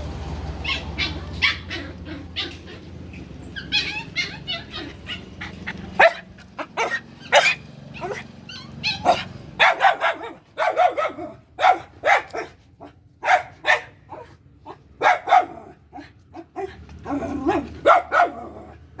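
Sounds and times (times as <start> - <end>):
puppies yapping and barking: 0.4 - 19.0.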